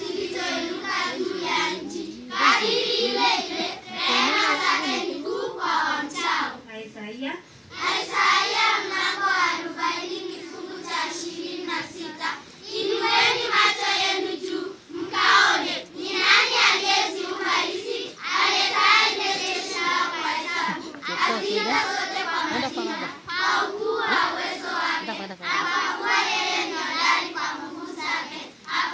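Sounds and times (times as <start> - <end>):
girls choir singing: 0.0 - 6.6, 7.7 - 28.9.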